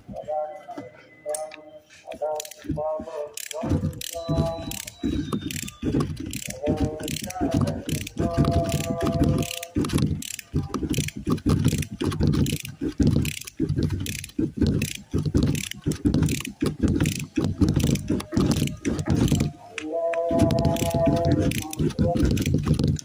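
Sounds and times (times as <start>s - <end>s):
hand ratchet clicking: 2.4s - 2.7s, 3.3s - 19.5s, 20.4s - 23.0s.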